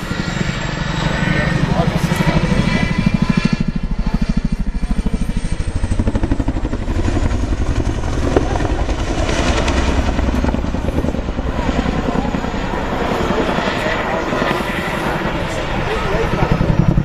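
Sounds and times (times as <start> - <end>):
helicopter rotor blades beating: 0.0 - 17.0.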